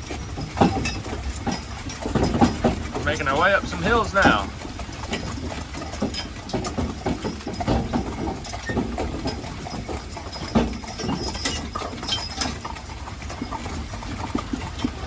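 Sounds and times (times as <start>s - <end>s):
horse hooves clip-clopping: 0.0s - 15.0s
low rumble of wagon: 0.0s - 15.0s.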